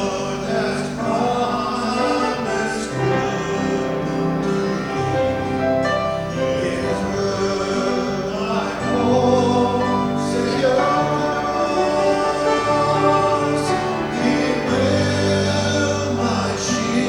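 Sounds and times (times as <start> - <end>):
voices singing worship song: 0.0 - 17.0
instrumental accompaniment: 1.0 - 17.0.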